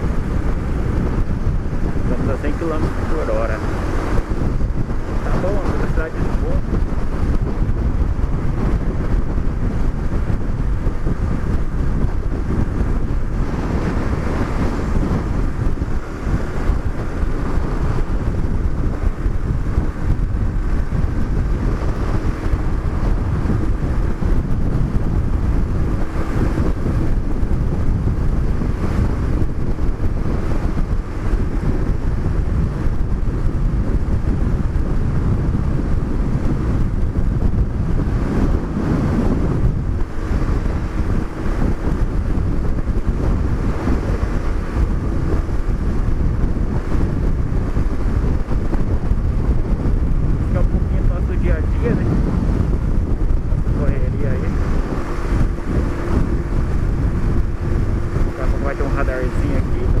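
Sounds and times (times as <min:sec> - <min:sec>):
motorcycle engine drone: 0:00.0 - 1:00.0
wind buffeting microphone: 0:00.0 - 1:00.0.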